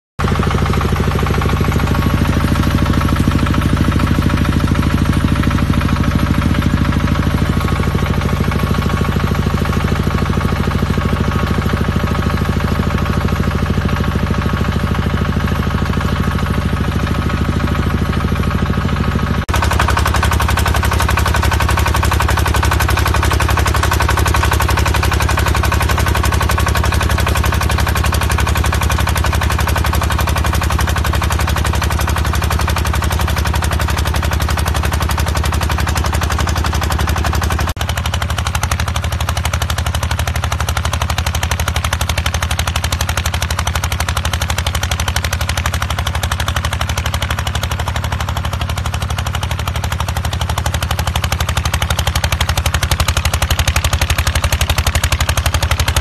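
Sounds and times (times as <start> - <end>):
tiller engine running: 0.2 - 56.0
tines churning soil: 0.2 - 56.0.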